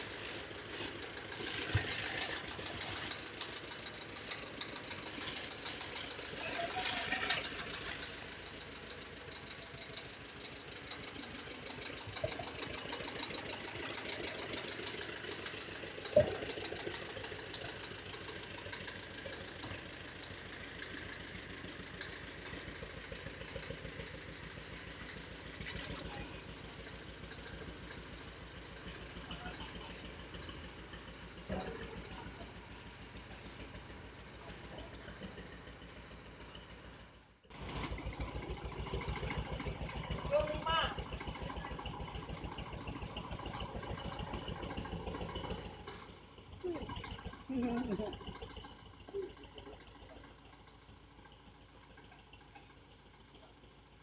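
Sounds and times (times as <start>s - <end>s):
road roller diesel engine running: 0.0s - 54.0s.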